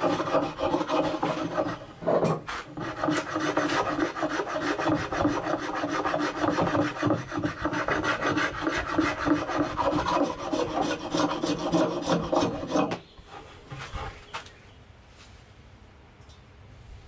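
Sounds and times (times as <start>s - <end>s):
wood scraping by hand: 0.0s - 14.4s.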